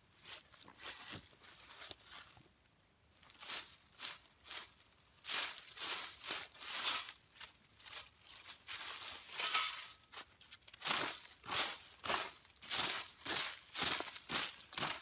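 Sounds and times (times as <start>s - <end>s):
dry leaves and twigs crunching: 0.0s - 15.0s.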